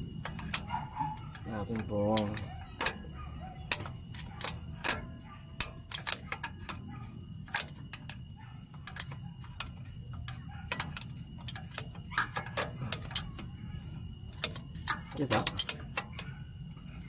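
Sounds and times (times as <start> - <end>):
steady low hum: 0.0 - 17.0
metallic clicks of hand tools: 0.2 - 13.5, 14.3 - 17.0.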